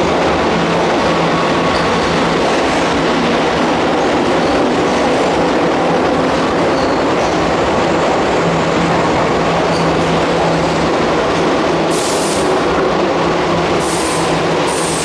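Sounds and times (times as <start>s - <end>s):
electric train rail rumble: 0.0s - 15.0s.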